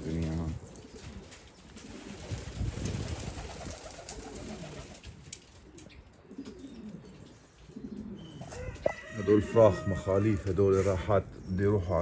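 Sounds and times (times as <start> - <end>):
pigeons cooing: 0.6 - 5.0, 5.6 - 12.0.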